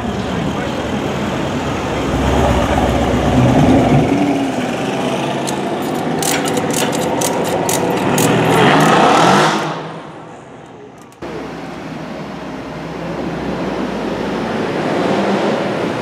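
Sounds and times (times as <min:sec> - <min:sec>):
engine revving: 0:00.0 - 0:10.2, 0:12.8 - 0:16.0.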